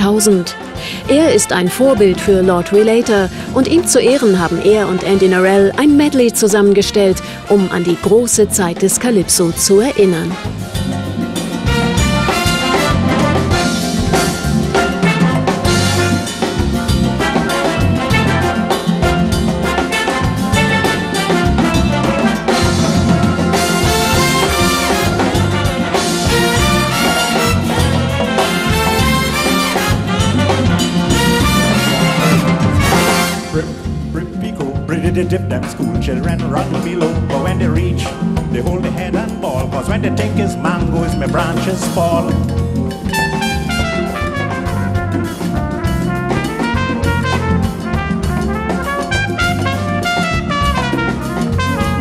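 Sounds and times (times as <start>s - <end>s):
trumpet lead line: 0.0s - 35.7s, 43.0s - 52.0s
big band calypso music: 0.0s - 52.0s.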